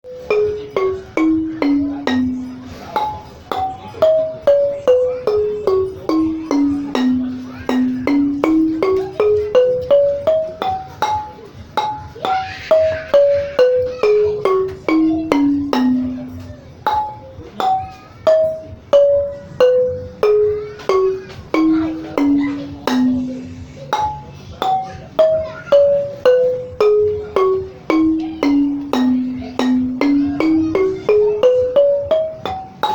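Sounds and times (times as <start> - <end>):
xylophone playing a scale: 0.0 - 32.9.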